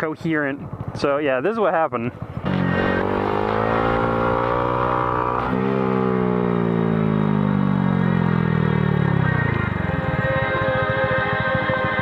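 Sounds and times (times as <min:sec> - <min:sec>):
motorcycle engine revving: 0:00.6 - 0:01.1, 0:02.1 - 0:12.0.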